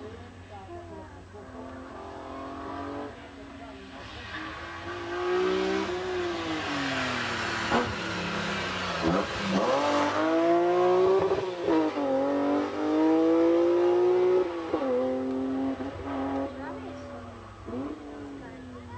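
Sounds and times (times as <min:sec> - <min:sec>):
race car engine revving: 0:00.0 - 0:18.9.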